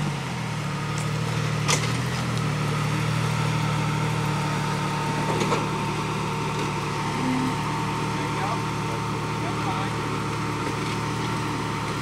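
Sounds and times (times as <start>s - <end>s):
off-road vehicle engine at low revs: 0.0s - 12.0s.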